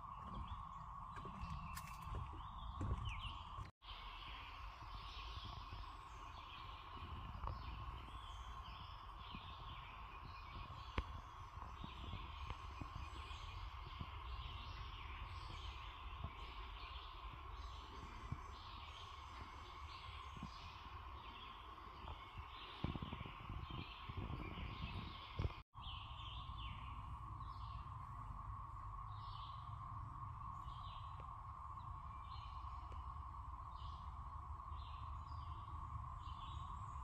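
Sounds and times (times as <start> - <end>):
birds chirping: 0.0 - 37.0
cicadas droning: 0.0 - 37.0.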